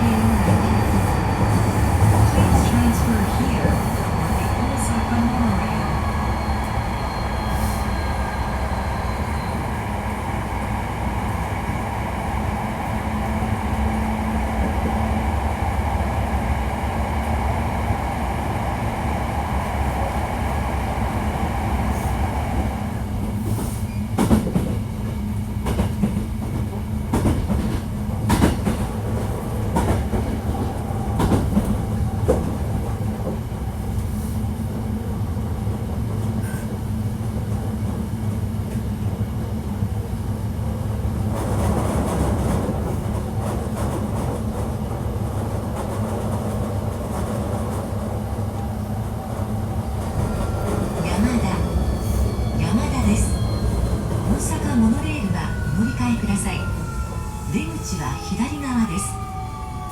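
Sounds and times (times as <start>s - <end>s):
train rumble from inside: 0.0s - 59.9s.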